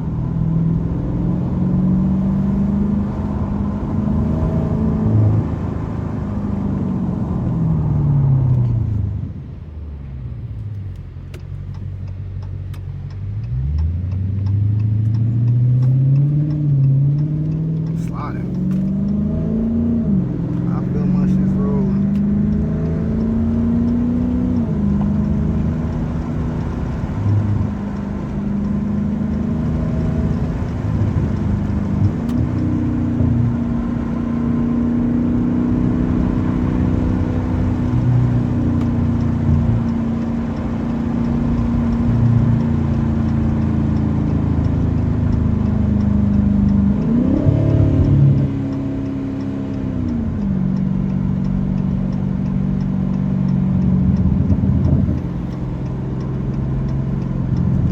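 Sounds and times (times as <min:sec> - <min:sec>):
engine revving: 0:00.0 - 0:09.2, 0:11.6 - 0:57.9
car engine droning while cruising: 0:00.0 - 0:57.9.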